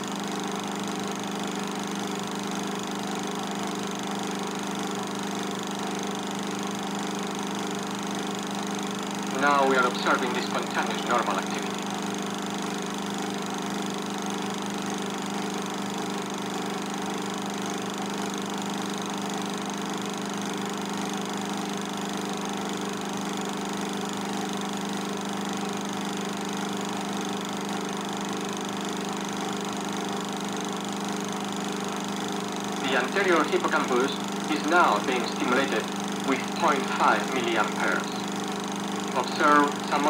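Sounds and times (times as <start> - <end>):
film projector humming: 0.0 - 40.0.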